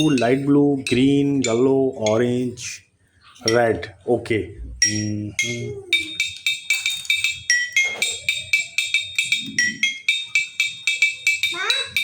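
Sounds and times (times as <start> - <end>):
toy xylophone notes: 0.0 - 2.7, 4.7 - 12.0.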